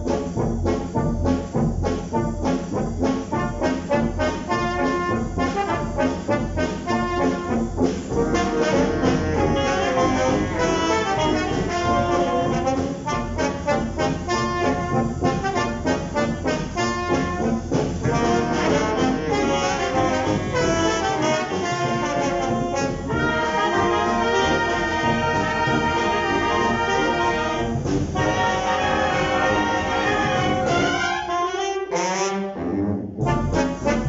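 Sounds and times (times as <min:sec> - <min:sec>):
wind band playing: 0:00.0 - 0:34.0.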